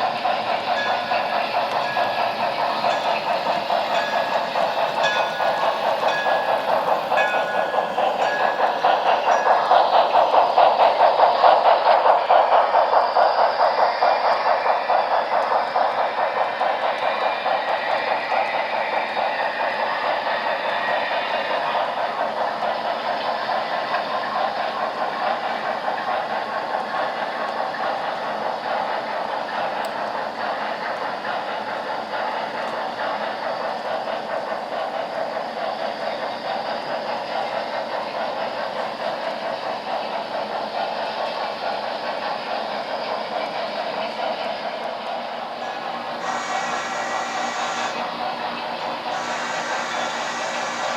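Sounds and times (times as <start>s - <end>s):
model train running: 0.0s - 50.9s.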